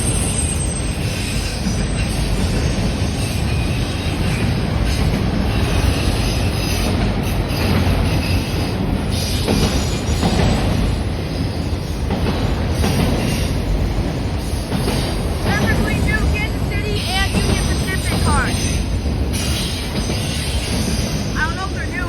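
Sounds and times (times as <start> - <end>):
steel train wheels on rail: 0.0 - 22.0.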